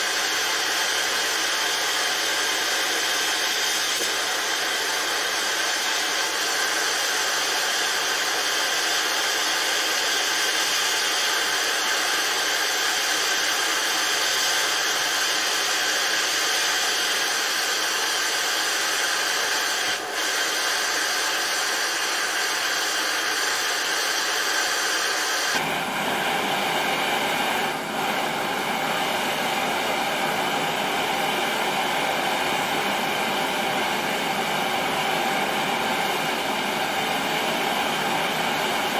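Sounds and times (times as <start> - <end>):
gas torch flame hissing: 0.0 - 38.9.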